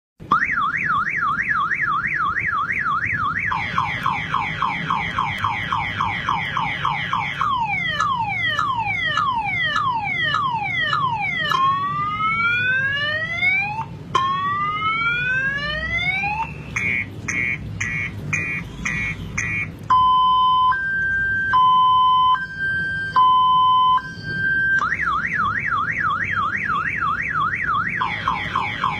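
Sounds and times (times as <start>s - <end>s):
car alarm siren: 0.2s - 28.9s.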